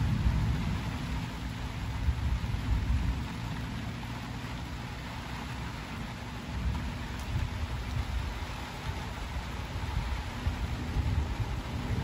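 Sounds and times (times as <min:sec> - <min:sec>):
low rumble of thunder: 0:00.0 - 0:12.0
rain falling steadily: 0:00.0 - 0:12.0.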